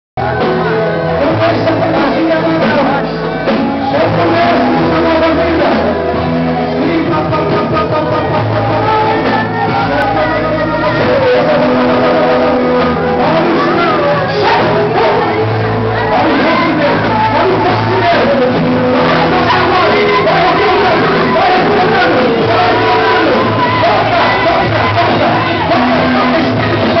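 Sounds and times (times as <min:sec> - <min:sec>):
long held bass notes: 0:00.2 - 0:27.0
people singing over band: 0:00.2 - 0:27.0.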